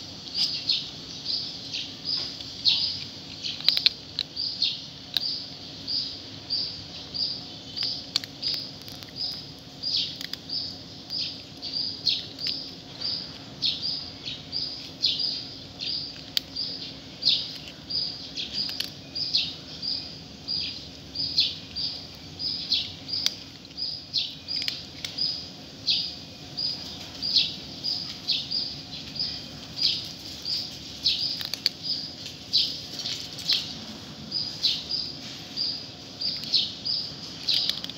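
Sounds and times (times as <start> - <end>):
cat chewing kibble: 2.0 - 5.6, 7.4 - 14.1, 15.6 - 19.7, 20.9 - 37.9.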